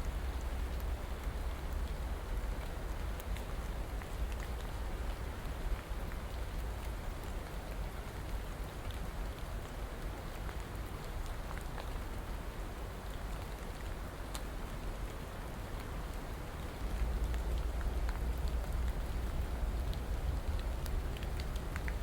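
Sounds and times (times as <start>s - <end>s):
raindrops ticking: 0.0s - 22.0s
steady rain hiss: 0.0s - 22.0s.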